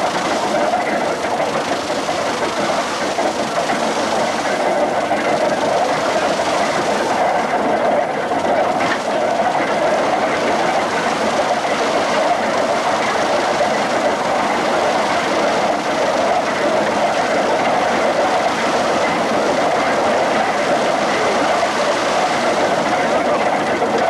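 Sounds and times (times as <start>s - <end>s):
threshing mill rattling drone: 0.0s - 24.0s.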